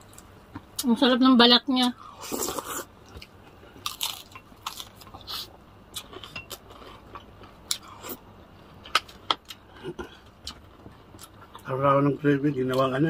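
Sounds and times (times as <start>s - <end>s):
crunching and chewing fried chicken: 1.9s - 13.0s.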